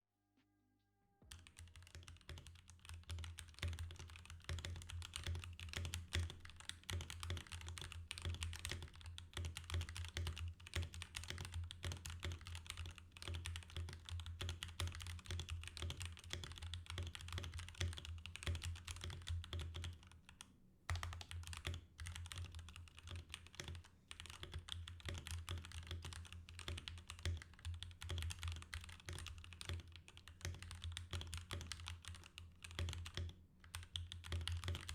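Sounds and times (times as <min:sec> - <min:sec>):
mechanical keyboard typing: 0:01.3 - 0:34.9.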